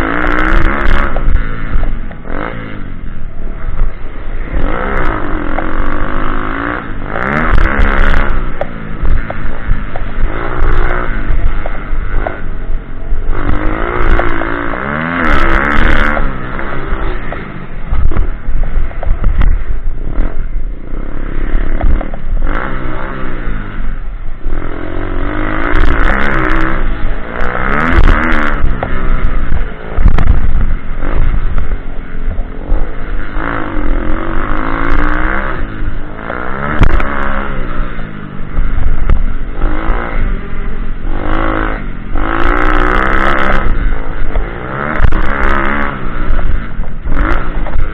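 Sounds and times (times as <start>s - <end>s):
pitbike engine revving: 0.0s - 47.9s.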